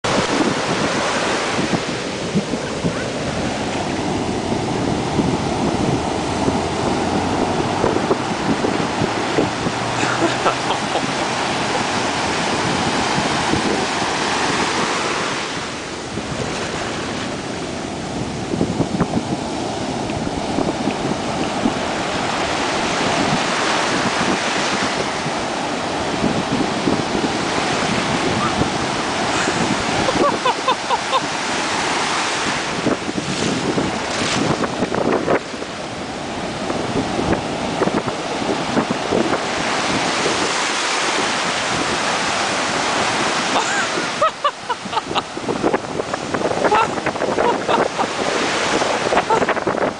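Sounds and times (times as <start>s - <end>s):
ocean surf breaking: 0.0s - 49.9s.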